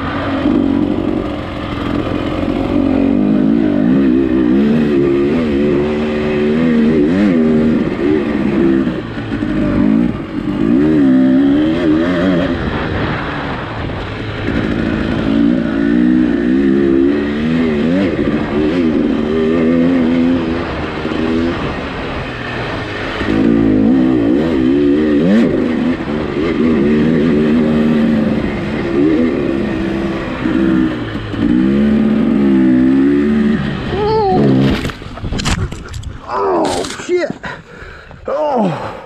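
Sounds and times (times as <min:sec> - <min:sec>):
dirt bike engine revving: 0:00.0 - 0:37.5.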